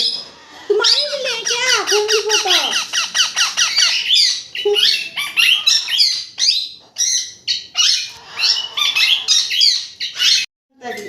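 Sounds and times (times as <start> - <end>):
parakeets squawking: 0.0 - 11.0.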